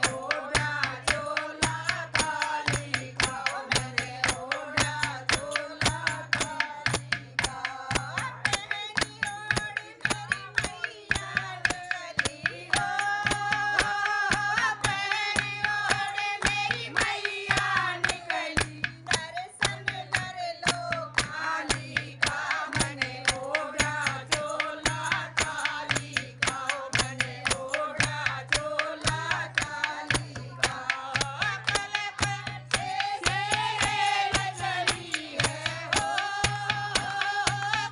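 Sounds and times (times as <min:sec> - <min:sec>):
hand-clapping: 0:00.0 - 0:37.9
women singing devotional song: 0:00.0 - 0:37.9.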